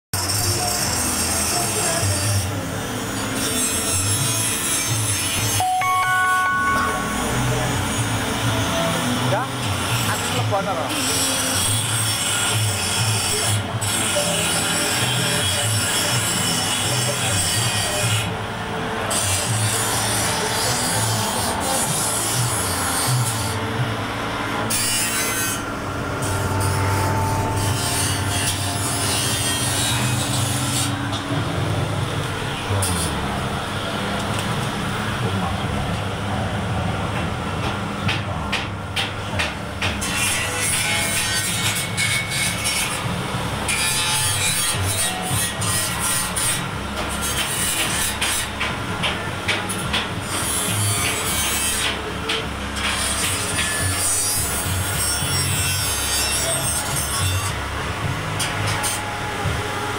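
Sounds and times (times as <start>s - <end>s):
rasping scraping noise: 0.2s - 5.6s, 6.5s - 18.4s, 19.0s - 33.3s, 38.0s - 59.5s.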